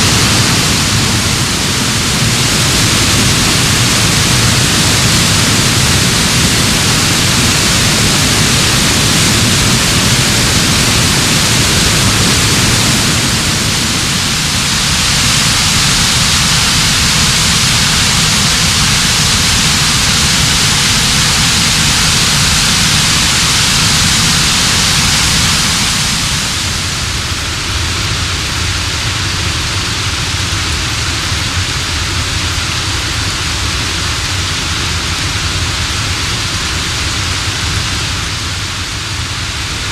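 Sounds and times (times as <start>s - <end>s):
creek cascading over rocks: 0.0s - 39.9s.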